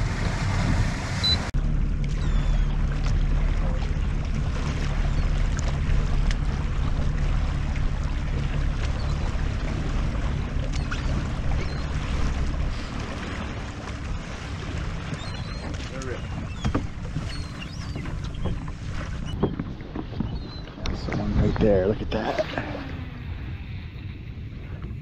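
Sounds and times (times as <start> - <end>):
low rumble: 0.0 - 25.0
water lapping against hull: 0.0 - 25.0.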